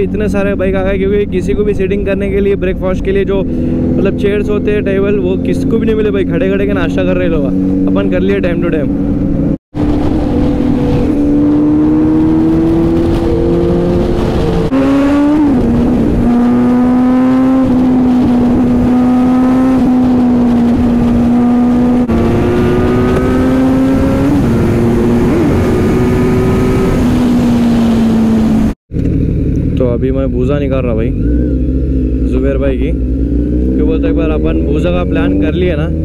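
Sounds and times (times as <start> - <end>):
motorcycle engine at high revs: 3.4 - 30.4, 31.0 - 36.0.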